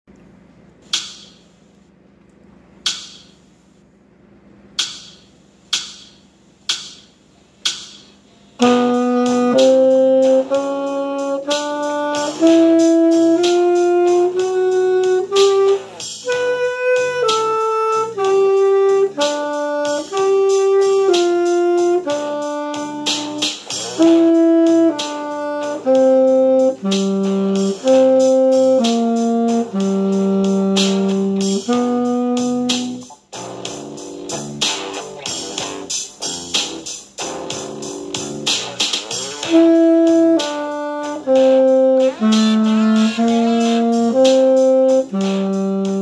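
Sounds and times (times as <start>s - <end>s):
tenor saxophone blues melody: 8.6s - 46.0s.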